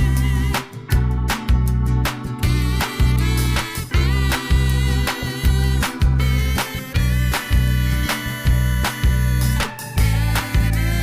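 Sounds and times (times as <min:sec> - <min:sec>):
instrumental music with bass and drums: 0:00.0 - 0:11.0.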